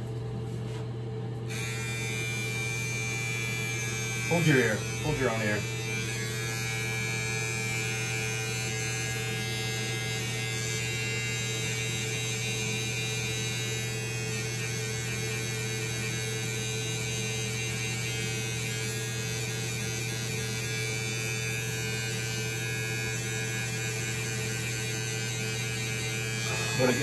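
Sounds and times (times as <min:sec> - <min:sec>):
electric hair trimmer buzzing: 0:01.5 - 0:27.0.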